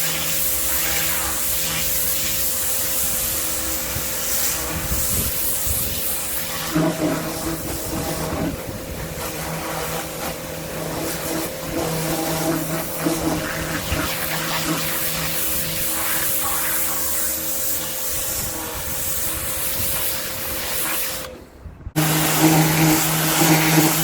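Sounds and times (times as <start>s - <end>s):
water jet hissing on paving: 0.0s - 21.3s, 22.0s - 24.0s
pressure washer motor humming: 0.0s - 24.0s.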